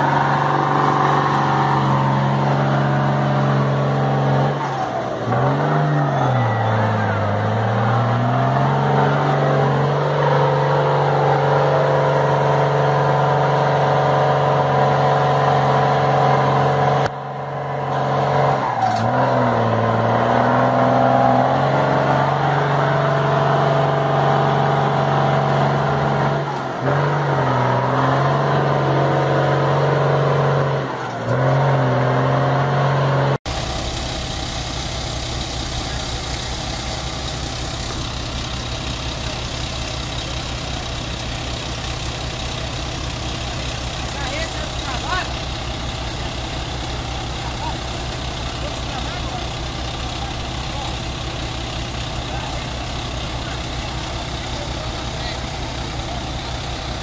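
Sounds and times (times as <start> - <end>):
truck engine running evenly: 0.0 - 32.8, 33.4 - 57.0
bus engine revving hard: 0.0 - 57.0.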